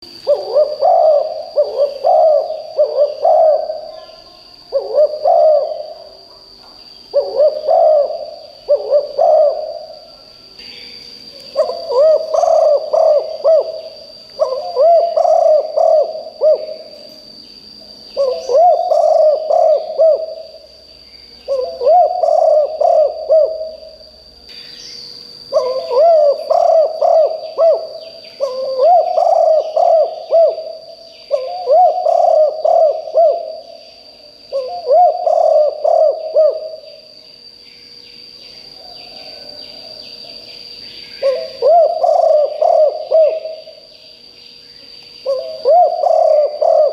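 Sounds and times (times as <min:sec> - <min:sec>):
dove cooing: 0:00.0 - 0:10.3, 0:11.4 - 0:17.2, 0:18.1 - 0:20.7, 0:21.4 - 0:24.1, 0:25.4 - 0:37.2, 0:41.0 - 0:43.9, 0:45.2 - 0:46.9.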